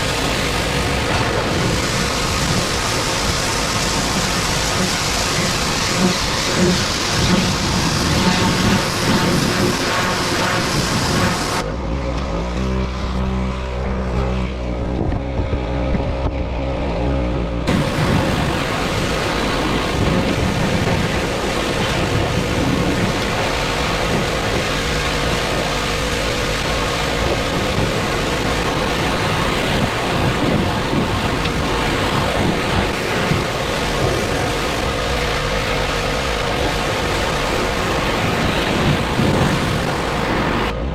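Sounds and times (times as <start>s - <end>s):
pressure washer spraying: 0.0s - 11.6s, 17.7s - 40.7s.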